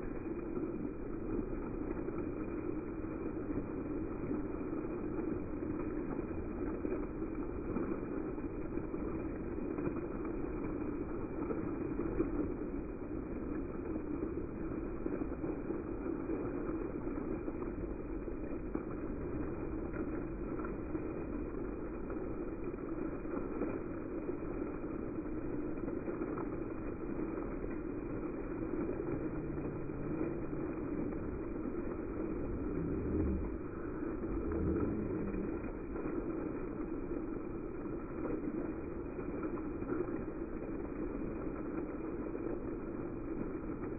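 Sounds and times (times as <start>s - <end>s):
fountain water splashing: 0.0s - 43.9s
low rumble: 0.0s - 43.9s.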